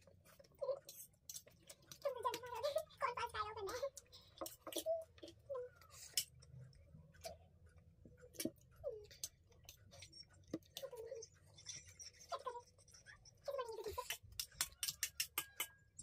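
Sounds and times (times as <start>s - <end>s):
chewing noodles: 0.0s - 15.6s.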